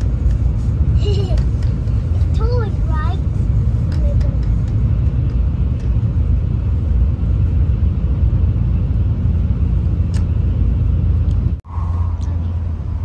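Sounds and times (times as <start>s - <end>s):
steady low hum: 0.0s - 13.0s
train rumble from inside: 0.0s - 13.0s.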